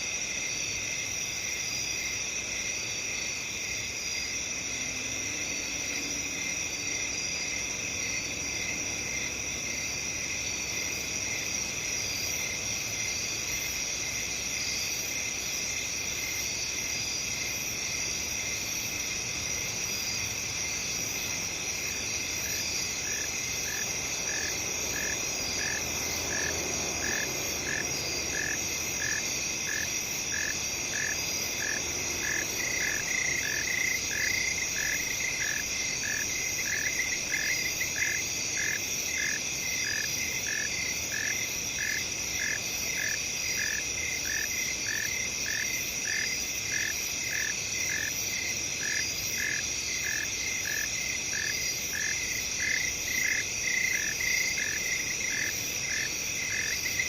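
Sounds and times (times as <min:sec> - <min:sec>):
crickets and insects chorus: 0:00.0 - 0:57.0
repeating insect chirp: 0:00.0 - 0:57.0.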